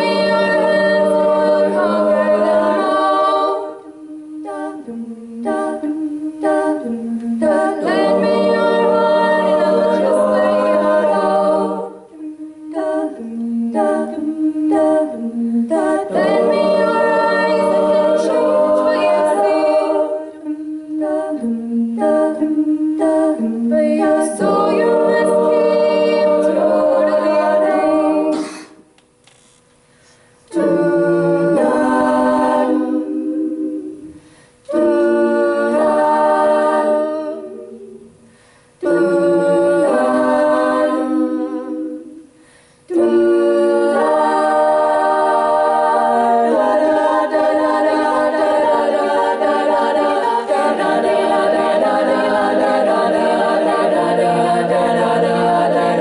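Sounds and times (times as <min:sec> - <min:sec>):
women singing a cappella: 0:00.0 - 0:29.0, 0:30.4 - 0:56.0.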